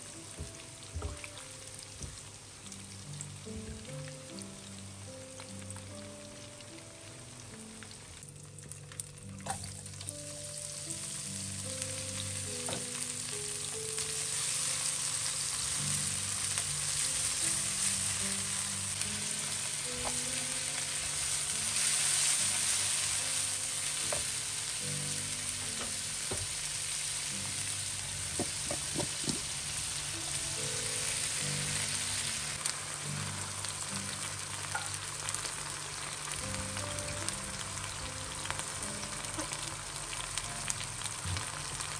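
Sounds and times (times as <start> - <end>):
oil sizzling in a wok: 0.0 - 41.9
soft background music: 0.0 - 41.9.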